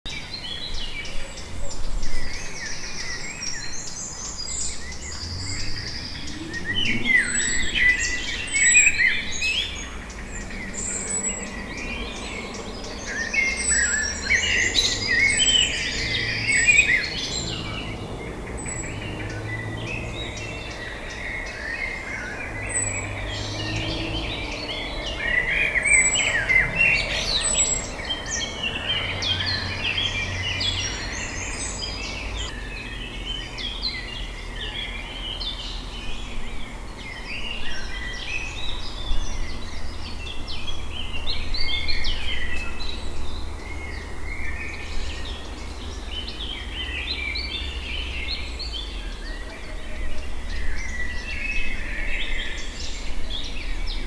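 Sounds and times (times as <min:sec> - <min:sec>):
songbirds singing and chirping: 0:00.0 - 0:54.0.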